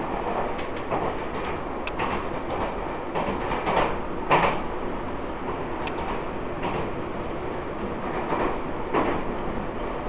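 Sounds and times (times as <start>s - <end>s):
train running rumble: 0.0s - 10.0s.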